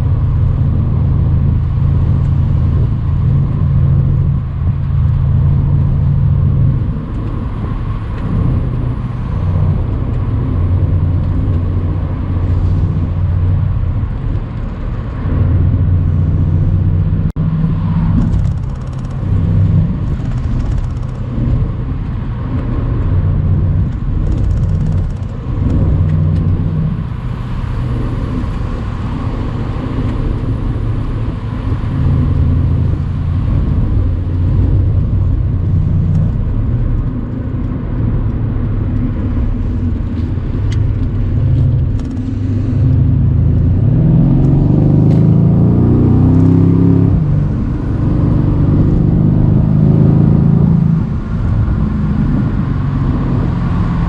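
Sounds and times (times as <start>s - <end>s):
car engine drone: 0.0s - 54.0s
road noise: 0.0s - 54.0s
wind noise: 0.0s - 54.0s.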